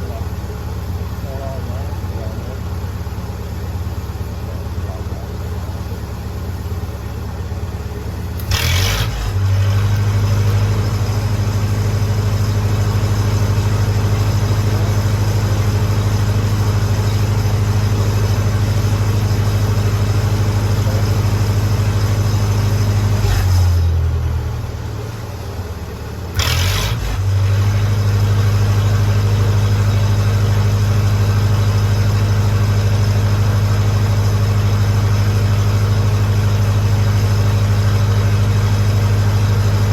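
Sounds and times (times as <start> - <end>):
welder engine and generator hum: 0.0 - 39.9.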